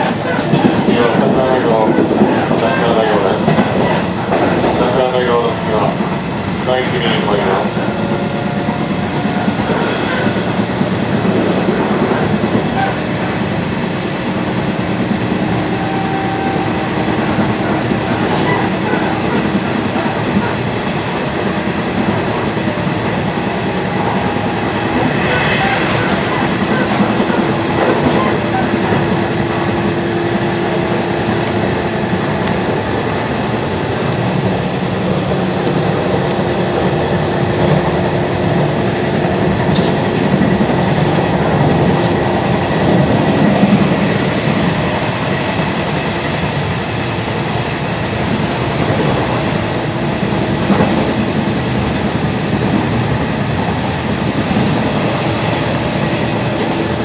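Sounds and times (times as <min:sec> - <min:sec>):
steady train hum: 0:00.0 - 0:57.0
train wheels rumbling: 0:00.0 - 0:57.0.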